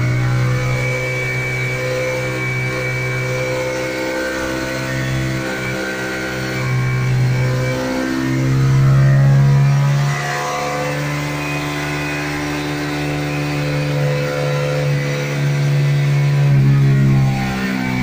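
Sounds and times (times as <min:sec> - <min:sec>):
motorcycle engine running under load: 0:00.0 - 0:18.0.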